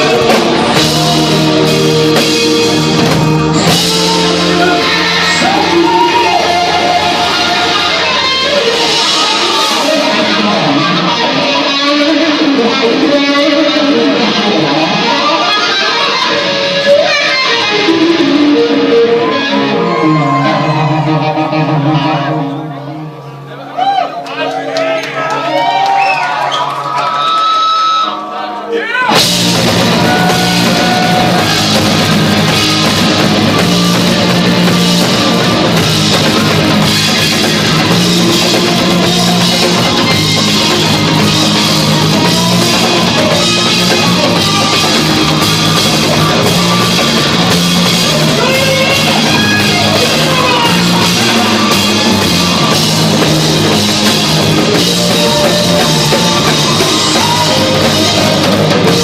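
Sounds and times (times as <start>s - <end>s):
drum kit: 0.0s - 22.2s, 29.1s - 59.0s
rock band playing live: 0.0s - 59.0s.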